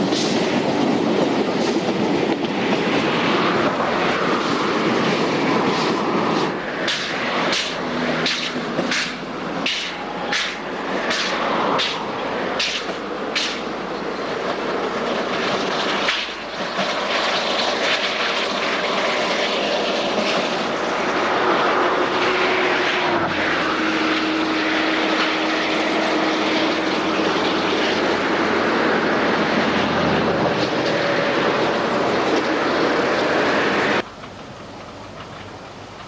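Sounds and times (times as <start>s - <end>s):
steam locomotive exhaust roar: 0.0s - 36.0s.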